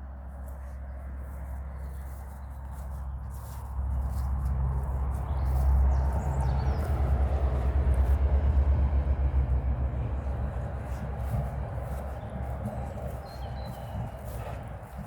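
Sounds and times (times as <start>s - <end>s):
motorway traffic rumble: 0.0s - 15.0s.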